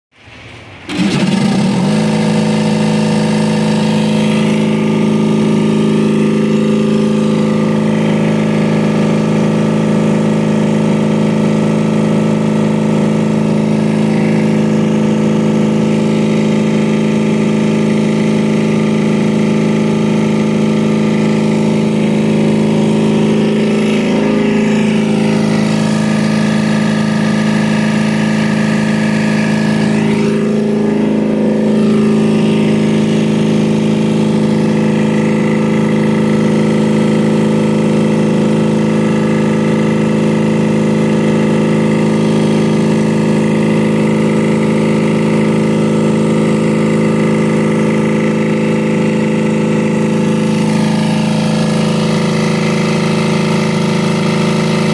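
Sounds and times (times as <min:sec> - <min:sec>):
refrigeration compressor humming: 0:00.2 - 0:54.9.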